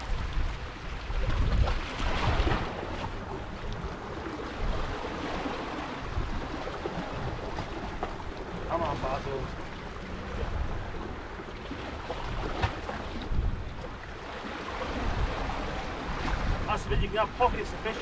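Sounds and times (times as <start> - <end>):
waves washing against rocks: 0.0 - 10.8, 11.8 - 18.0
wind buffeting microphone: 0.0 - 18.0.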